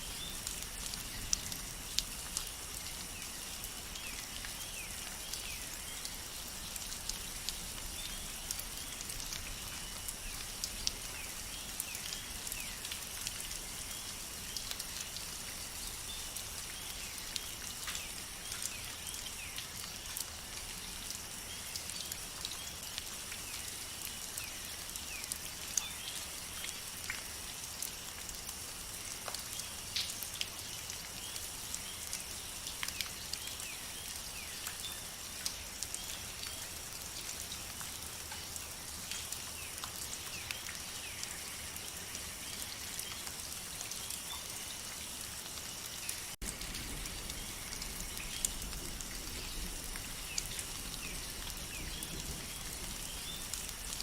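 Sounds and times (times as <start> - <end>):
raindrops ticking: 0.0 - 54.0
steady rain: 0.0 - 54.0.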